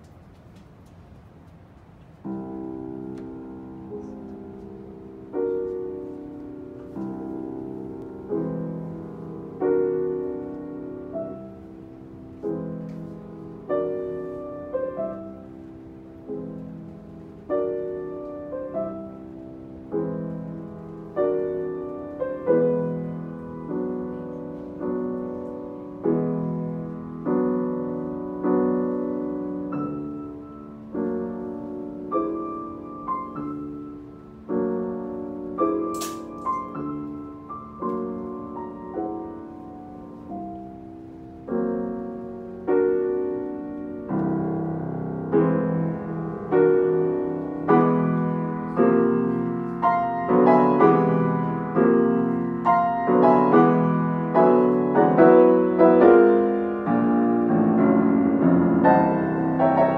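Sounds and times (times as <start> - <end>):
piano chords: 0.0 - 59.9.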